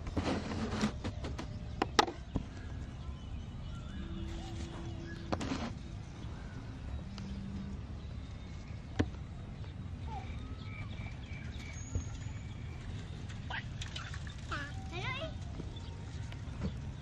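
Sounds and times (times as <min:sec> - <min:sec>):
faint chirping calls: 0:01.0 - 0:17.0.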